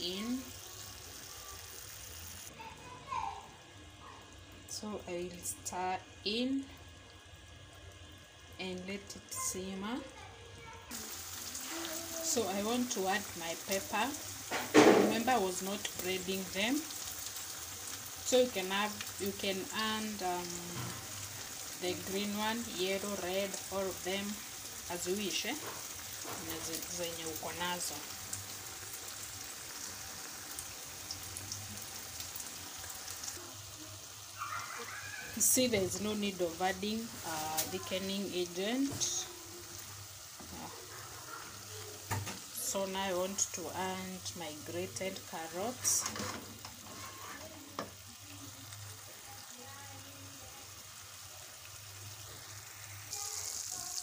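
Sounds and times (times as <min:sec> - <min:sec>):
stew simmering and bubbling: 0:00.0 - 0:54.0.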